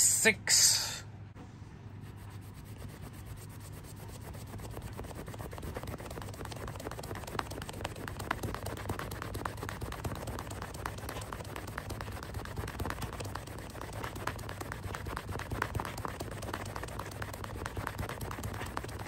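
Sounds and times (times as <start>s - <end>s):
steady low hum: 0.0s - 19.0s
cloth rubbing wood: 2.0s - 19.0s.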